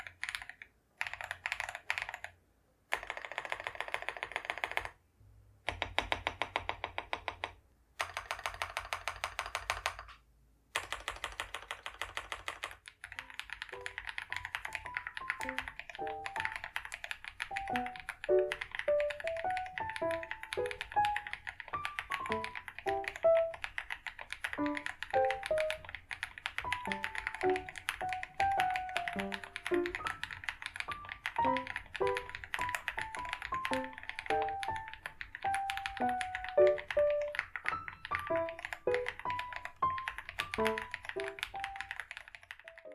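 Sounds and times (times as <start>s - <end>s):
mechanical keyboard typing: 0.0s - 5.0s, 5.6s - 42.9s.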